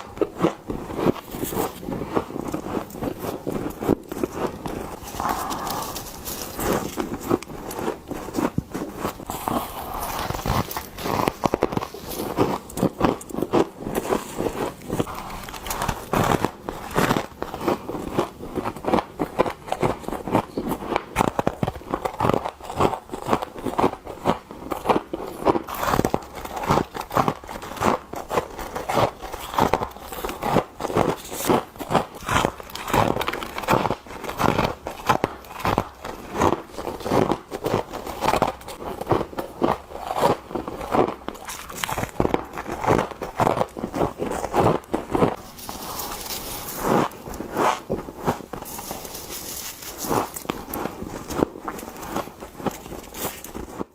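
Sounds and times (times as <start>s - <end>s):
crunchy chewing of frost: 0.0s - 53.9s.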